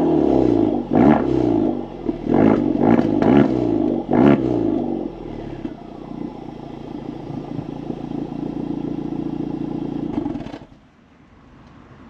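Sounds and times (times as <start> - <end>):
car engine revving and idling: 0.0 - 10.8.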